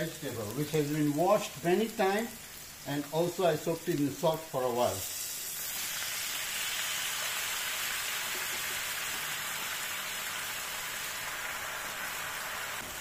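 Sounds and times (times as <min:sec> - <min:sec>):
wet leaves sizzling in hot oil: 0:00.0 - 0:13.0.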